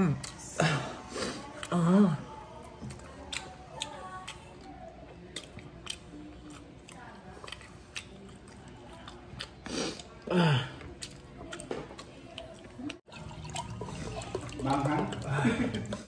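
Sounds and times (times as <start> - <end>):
chewing chicken wing: 1.2 - 16.0.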